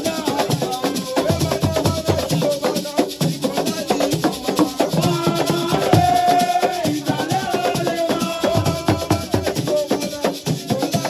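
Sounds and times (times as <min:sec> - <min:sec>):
fast hand-drum beats: 0:00.0 - 0:11.0
shakers rattling: 0:00.0 - 0:11.0.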